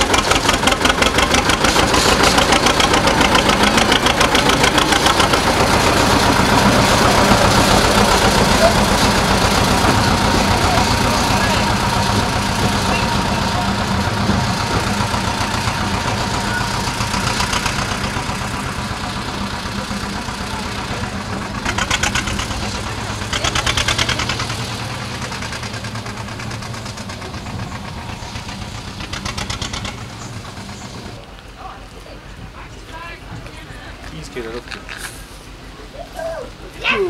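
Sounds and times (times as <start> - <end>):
rapid rattling: 0.0 - 31.2
diesel locomotive engine idling: 0.0 - 37.0.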